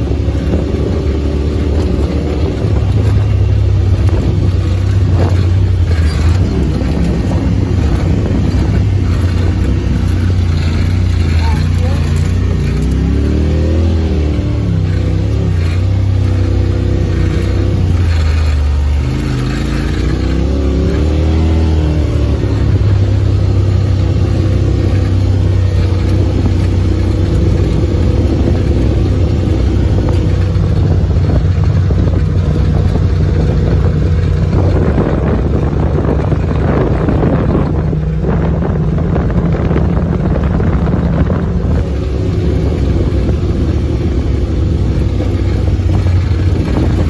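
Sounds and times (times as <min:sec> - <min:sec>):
tyres rumbling: 0:00.0 - 0:47.0
vehicle engine: 0:00.0 - 0:47.0
wind: 0:00.0 - 0:47.0.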